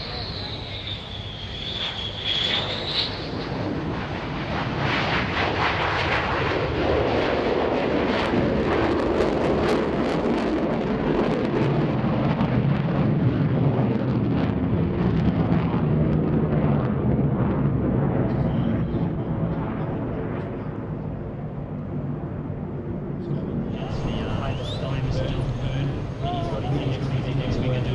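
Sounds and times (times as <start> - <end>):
crackling jet engine roar: 0.0 - 27.9.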